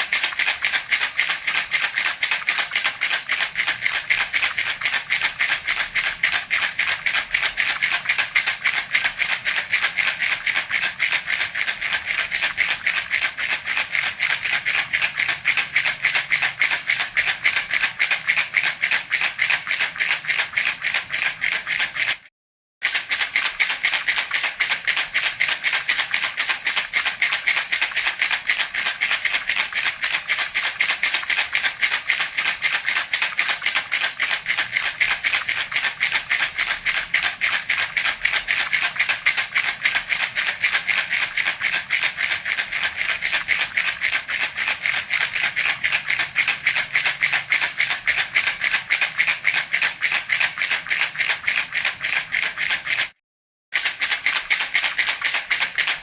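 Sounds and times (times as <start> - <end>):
baby rattle shaken rapidly: 0.0 - 53.2, 53.8 - 56.0.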